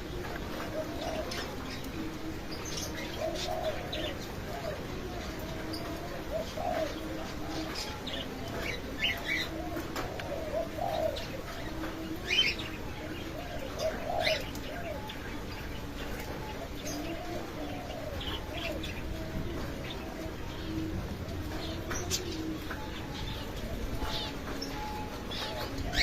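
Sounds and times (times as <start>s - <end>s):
birds cooing: 0.0s - 26.0s.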